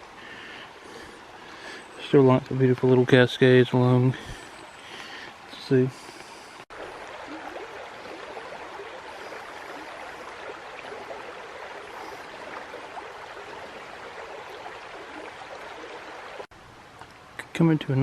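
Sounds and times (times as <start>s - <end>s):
creek water rushing over rocks: 0.0s - 16.5s.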